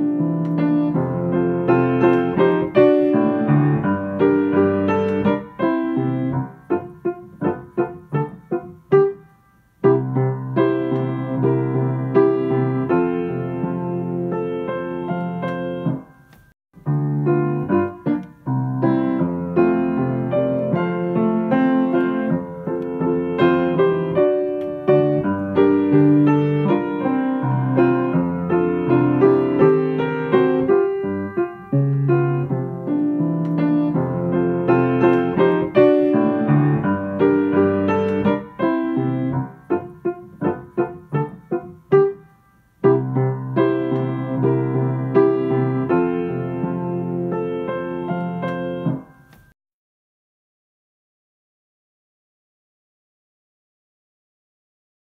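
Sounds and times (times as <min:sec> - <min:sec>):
piano music: 0:00.0 - 0:49.6.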